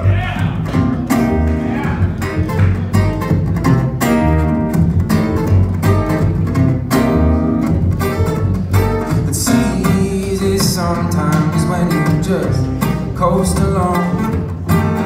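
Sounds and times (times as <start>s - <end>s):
acoustic guitars playing: 0.0s - 15.0s
double bass pulse: 0.0s - 15.0s.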